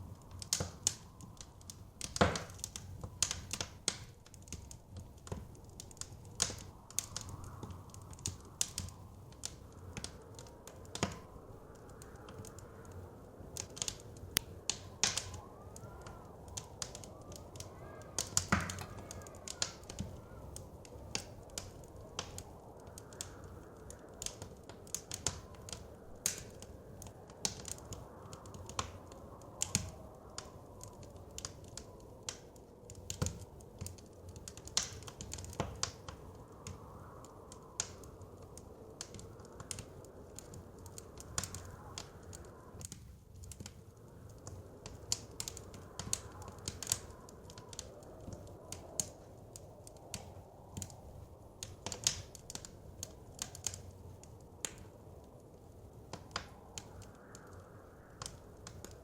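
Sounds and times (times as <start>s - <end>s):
low rush of wind: 0.0s - 59.0s
wood fire crackling and popping: 0.0s - 59.0s.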